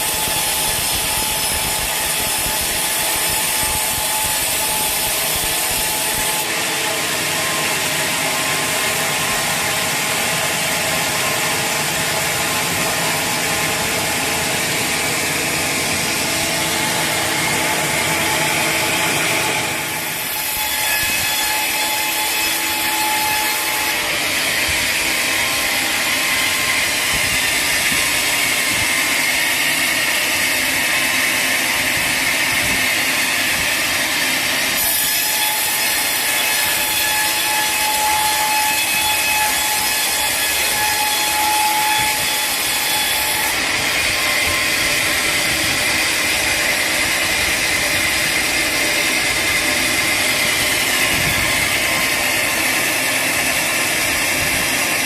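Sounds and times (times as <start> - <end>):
saw cutting log: 0.0 - 55.0.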